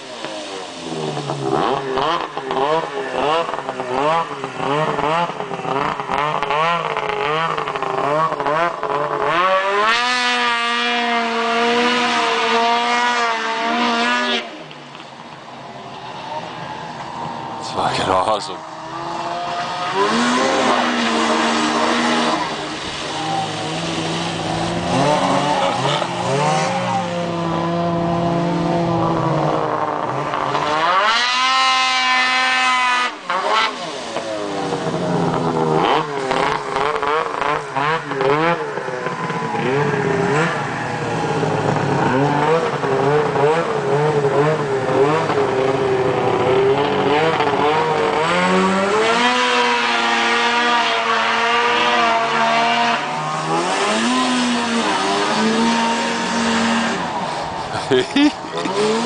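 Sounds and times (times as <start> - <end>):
snowmobile engine revving: 0.0 - 14.7, 16.3 - 59.0.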